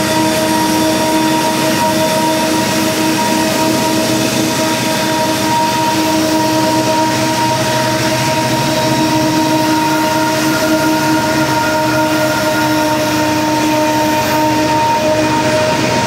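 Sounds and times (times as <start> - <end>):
steady multi-tone whine: 0.0 - 16.0
train wheels rumbling on rail: 0.0 - 16.0.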